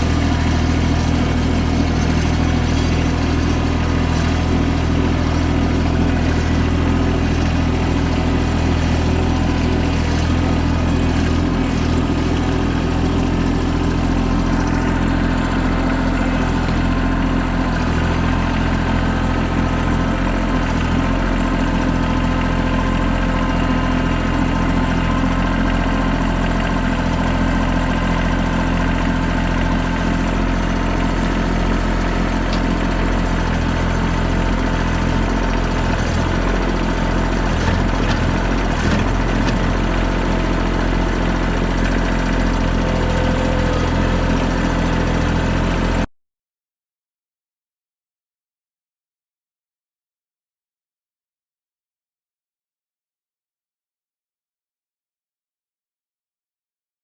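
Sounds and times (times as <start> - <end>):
engine running steadily: 0.0 - 46.1.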